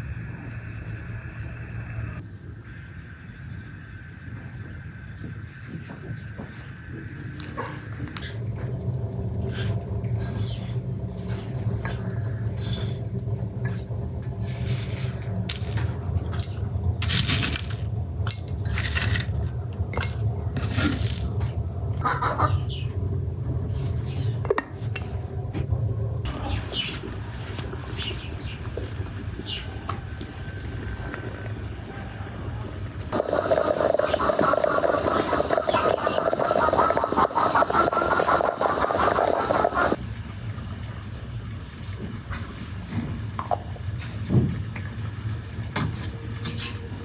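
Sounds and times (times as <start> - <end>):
steady low hum: 0.0 - 44.3.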